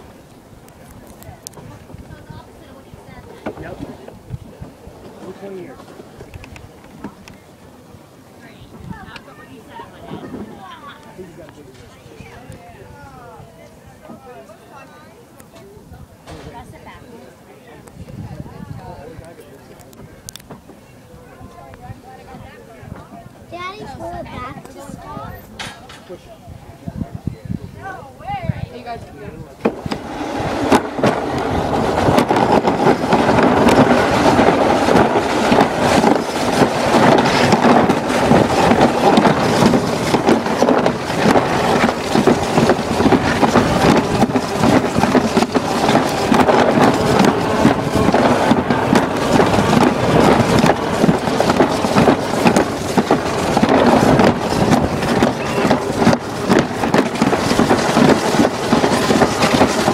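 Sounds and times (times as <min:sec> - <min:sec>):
sled rumbling down track: 0:00.0 - 0:15.3, 0:16.0 - 0:59.9.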